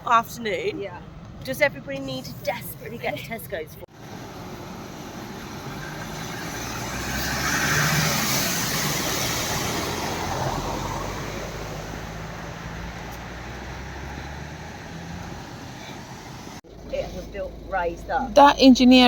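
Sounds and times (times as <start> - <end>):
low engine hum: 0.0 - 19.0
vehicle passing: 0.6 - 19.0.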